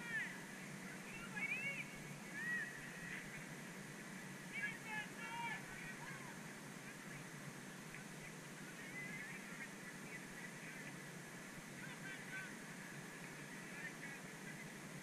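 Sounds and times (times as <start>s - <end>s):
distant short calls: 0.0s - 15.0s
faint steady hiss: 0.0s - 15.0s.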